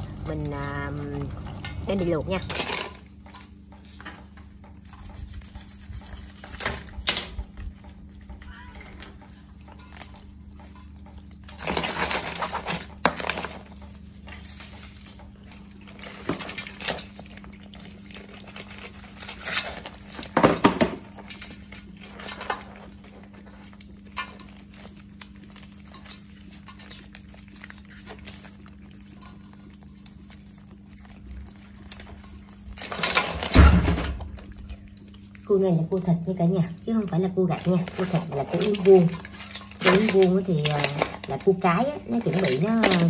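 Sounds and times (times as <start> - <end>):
crabs clattering on metal: 0.0 - 34.9, 36.8 - 43.0.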